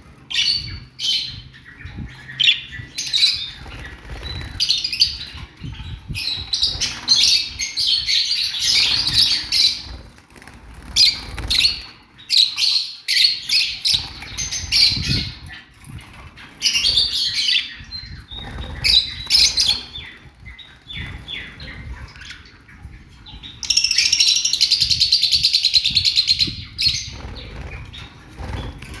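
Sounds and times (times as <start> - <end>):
cage birds chirping: 0.0 - 29.0.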